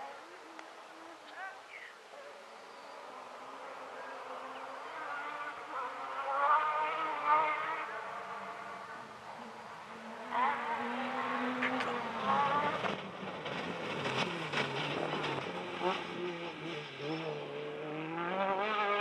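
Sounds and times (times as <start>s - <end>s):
car passing close by: 3.0s - 19.0s
rally car engine revving: 3.0s - 19.0s.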